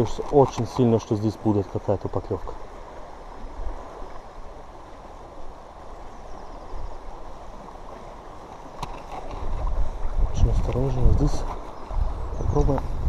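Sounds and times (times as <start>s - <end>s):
river water rushing over stones: 0.0s - 13.0s.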